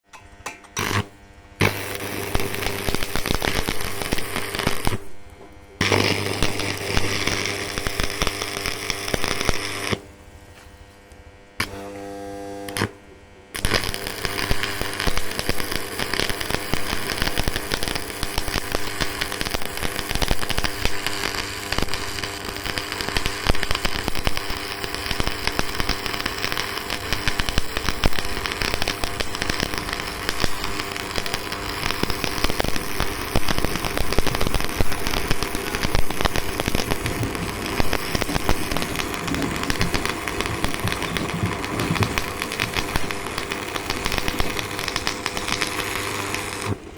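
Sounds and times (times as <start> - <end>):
welder hum: 0.0 - 46.9
welding arc crackling: 0.7 - 10.6, 11.6 - 13.0, 13.6 - 46.9.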